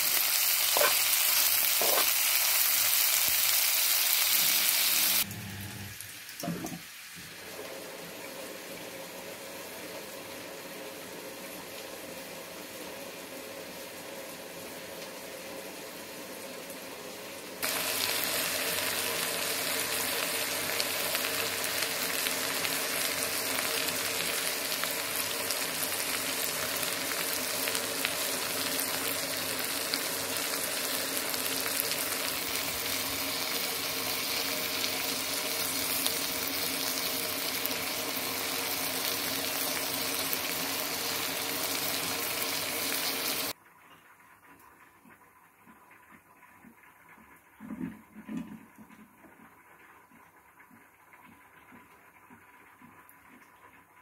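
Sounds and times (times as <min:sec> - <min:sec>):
prawns sizzling in oil: 0:00.0 - 0:48.3.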